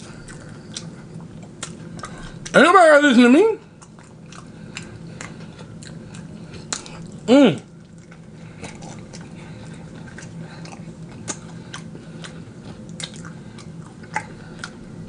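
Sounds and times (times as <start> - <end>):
chewing and crunching chicken: 0.0 - 15.0.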